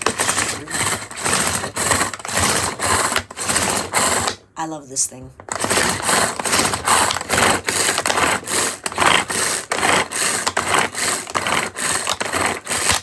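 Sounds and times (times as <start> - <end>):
kitchen tool shredding squash: 0.0 - 4.5, 5.4 - 13.0.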